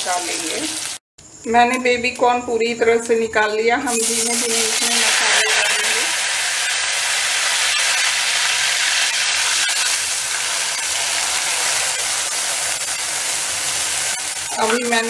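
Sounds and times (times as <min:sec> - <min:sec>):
paste sizzling in hot oil: 0:00.0 - 0:01.0, 0:03.9 - 0:15.0.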